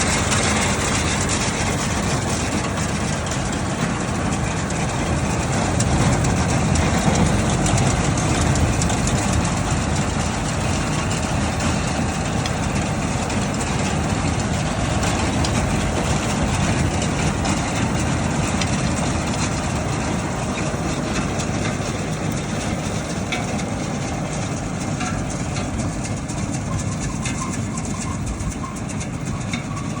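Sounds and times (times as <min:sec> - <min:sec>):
baler machinery working: 0:00.0 - 0:30.0
tractor engine running: 0:00.0 - 0:30.0.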